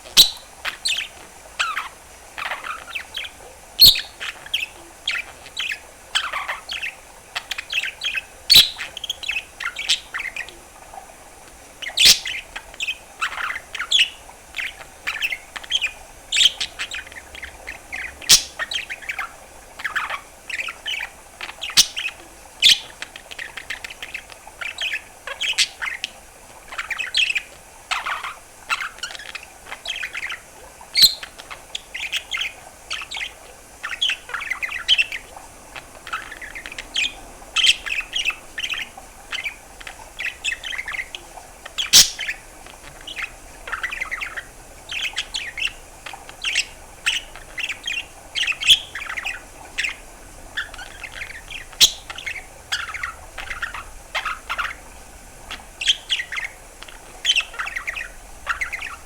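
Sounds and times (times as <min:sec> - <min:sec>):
budgerigar chirping and warbling: 0:00.0 - 0:10.6, 0:11.8 - 0:26.1, 0:26.7 - 0:42.4, 0:43.1 - 0:54.8, 0:55.5 - 0:59.0.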